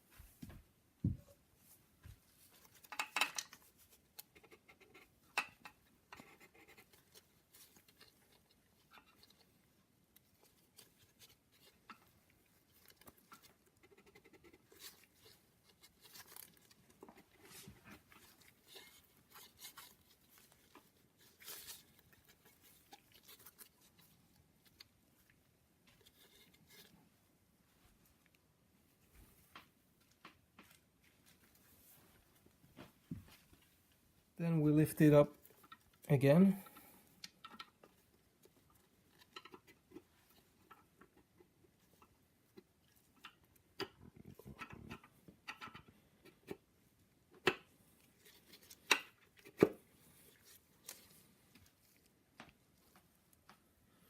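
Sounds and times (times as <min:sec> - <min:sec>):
soft rustling: 0:00.0 - 0:45.4, 0:46.0 - 0:54.0.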